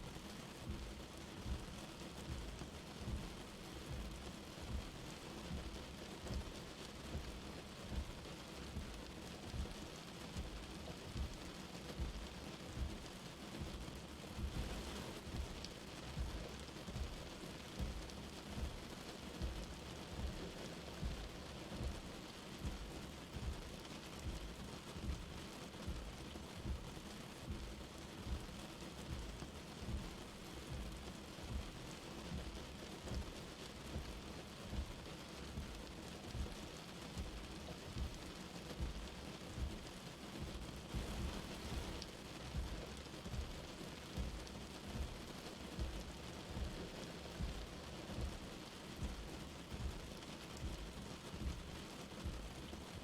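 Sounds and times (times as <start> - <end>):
light rain hissing: 0.0 - 53.0
soft low thumps: 0.2 - 9.8, 10.4 - 17.2, 17.8 - 36.6, 37.2 - 53.0.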